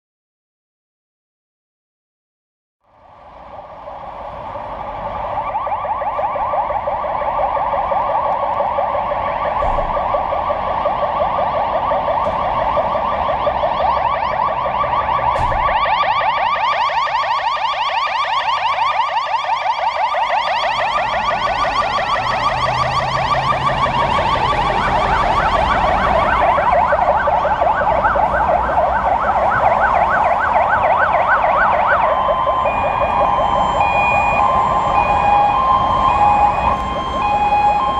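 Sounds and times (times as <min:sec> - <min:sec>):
emergency vehicle sirens: 0:02.8 - 0:37.9.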